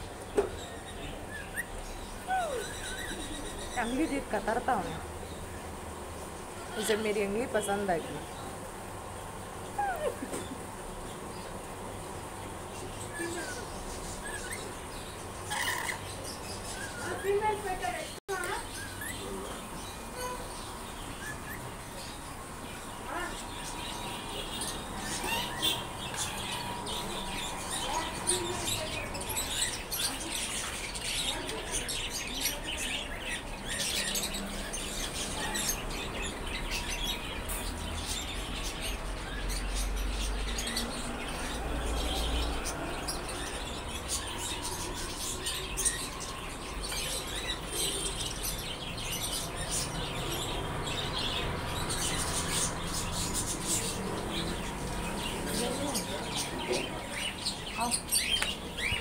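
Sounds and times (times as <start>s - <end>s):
birds chirping and tweeting: 0.0s - 59.0s.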